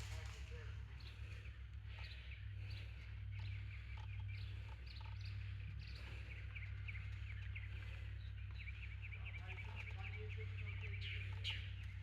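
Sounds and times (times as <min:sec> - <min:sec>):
steady low hum: 0:00.0 - 0:12.0
birds chirping: 0:00.5 - 0:12.0.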